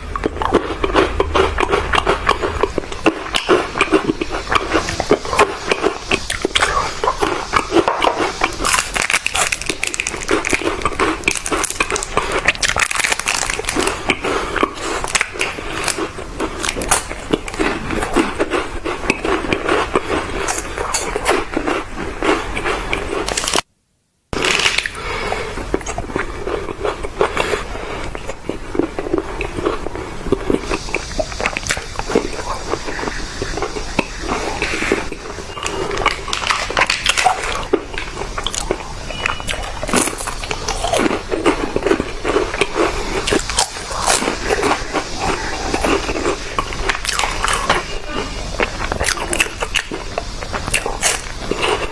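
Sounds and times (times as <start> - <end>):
chewing crunchy sweets: 0.0 - 23.7, 24.3 - 51.9.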